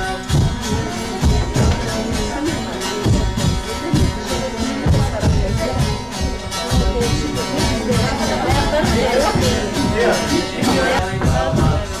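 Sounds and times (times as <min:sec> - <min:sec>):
strummed long-necked lute: 0:00.0 - 0:12.0.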